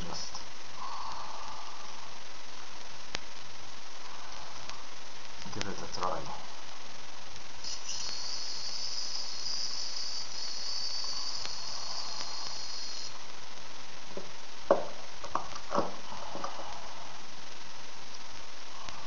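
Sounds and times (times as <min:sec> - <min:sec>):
spark gap arcing hiss: 0:00.0 - 0:19.0.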